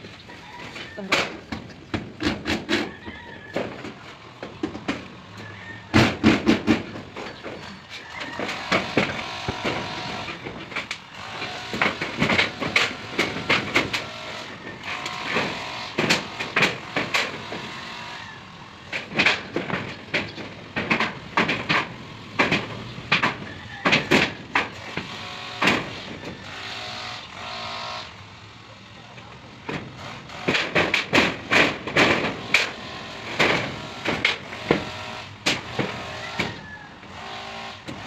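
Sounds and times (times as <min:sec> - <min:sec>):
metal roof sheets clanking: 0:00.4 - 0:26.8, 0:29.6 - 0:38.0.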